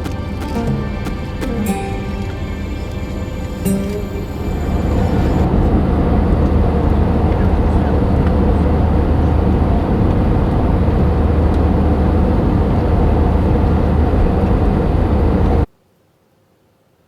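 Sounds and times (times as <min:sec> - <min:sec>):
airliner cabin noise in flight: 0:00.0 - 0:15.7.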